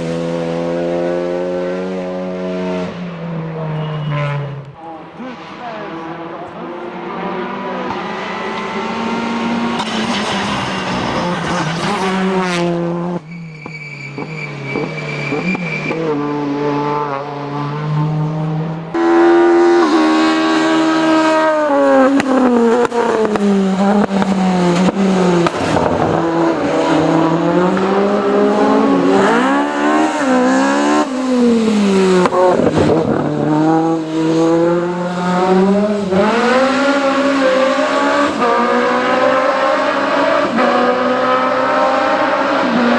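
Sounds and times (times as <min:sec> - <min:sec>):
race car engines accelerating: 0:00.0 - 0:42.9.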